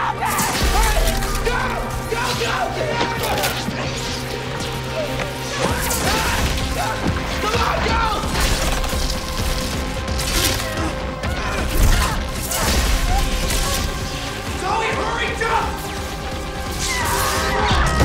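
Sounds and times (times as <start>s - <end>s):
electrical arcs crackling and zapping: 0.0s - 7.5s, 8.2s - 17.7s
dramatic music score: 0.0s - 18.0s.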